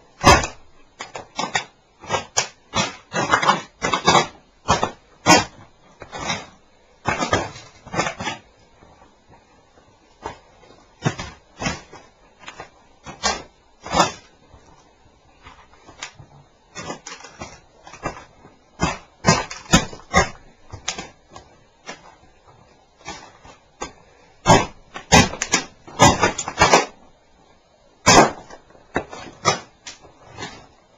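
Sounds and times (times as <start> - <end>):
plastic cracking and crunching: 0.2 - 8.5, 10.1 - 27.1, 28.0 - 30.8.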